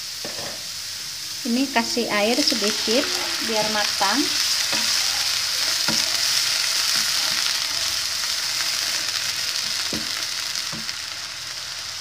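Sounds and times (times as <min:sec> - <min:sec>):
carrot sizzling in oil: 0:00.0 - 0:12.0.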